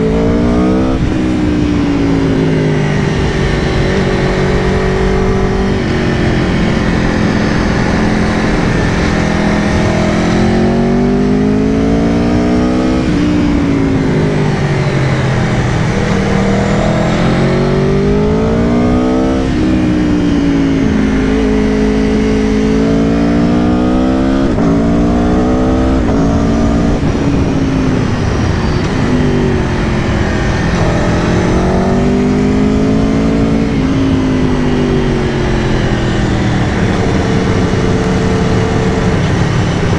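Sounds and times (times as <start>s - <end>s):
motorcycle engine revving: 0.0s - 39.9s
wind rushing: 0.0s - 39.9s.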